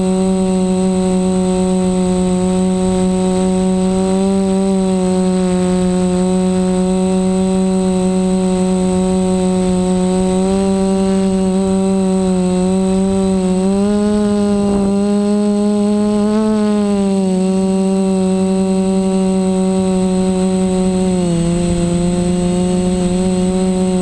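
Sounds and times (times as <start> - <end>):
drone motors humming: 0.0 - 24.0.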